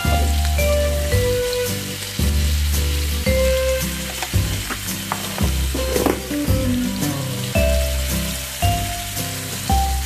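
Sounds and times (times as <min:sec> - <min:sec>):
background music: 0:00.0 - 0:10.0
chicken sizzling in frying pan: 0:00.0 - 0:10.0.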